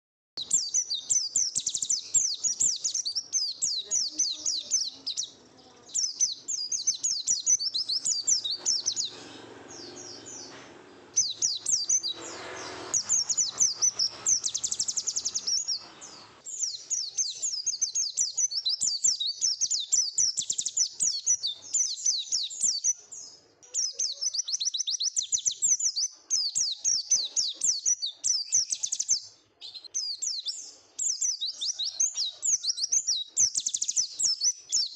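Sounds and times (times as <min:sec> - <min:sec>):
bird twittering song: 0:00.4 - 0:34.9.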